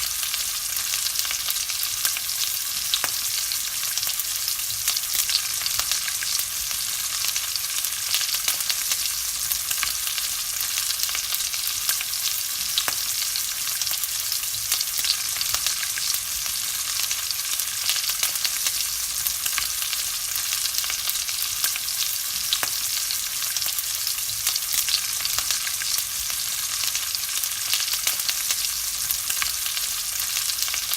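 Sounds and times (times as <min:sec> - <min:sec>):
bacon sizzling in a pan: 0:00.0 - 0:30.9.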